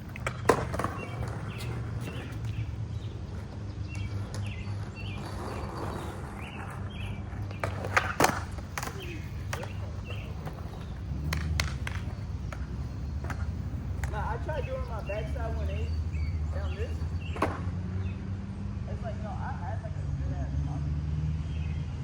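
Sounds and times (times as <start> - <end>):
skateboard clacks: 0.0 - 17.8
skateboard rolling: 0.0 - 18.2.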